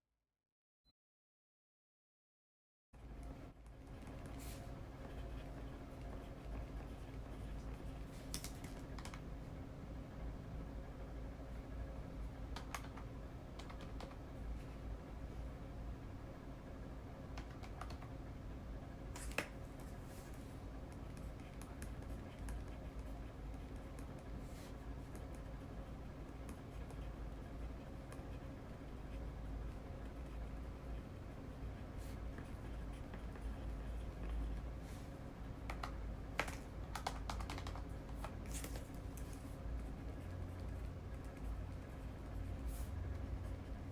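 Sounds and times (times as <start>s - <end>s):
low room hum: 3.0s - 43.9s.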